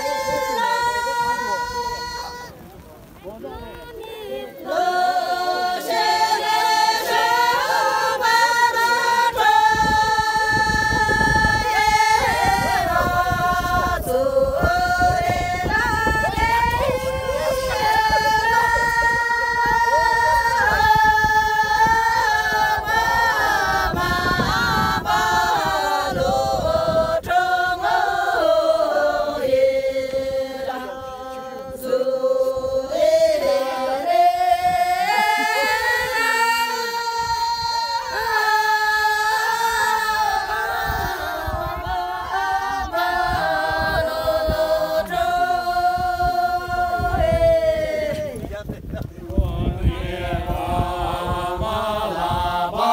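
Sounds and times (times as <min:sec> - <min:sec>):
women singing in unison: 0:00.0 - 0:02.5, 0:03.4 - 0:48.4, 0:49.3 - 0:52.9.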